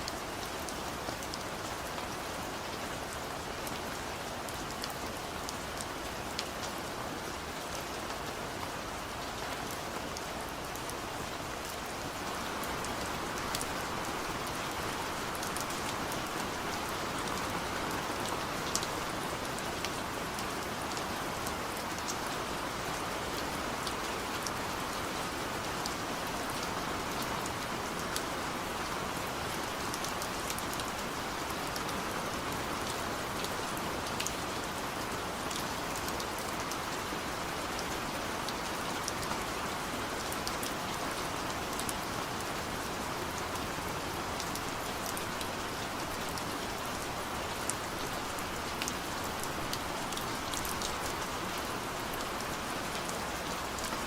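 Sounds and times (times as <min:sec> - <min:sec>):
steady rain hiss: 0:00.0 - 0:54.0
raindrops ticking on surface: 0:03.5 - 0:54.0.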